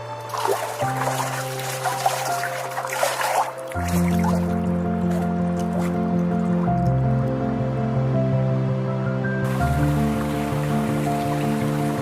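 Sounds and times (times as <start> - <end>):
ambient music of sustained chords: 0.0 - 12.0
water trickling and dripping: 0.2 - 7.4, 9.5 - 12.0.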